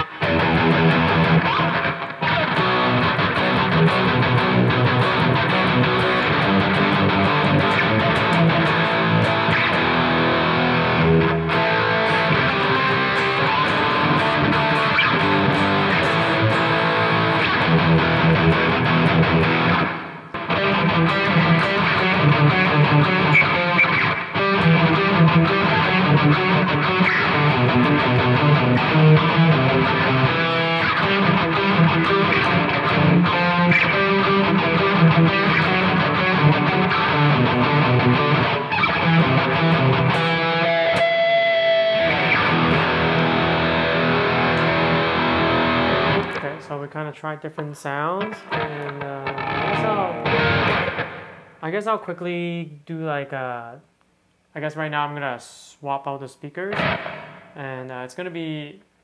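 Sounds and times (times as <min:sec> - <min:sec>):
distorted electric guitar: 0:00.0 - 0:46.9, 0:47.8 - 0:51.8, 0:56.7 - 0:58.1.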